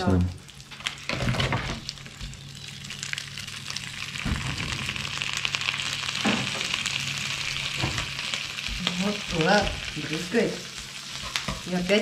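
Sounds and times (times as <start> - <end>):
shrimp sizzling in a pan: 0.0 - 12.0.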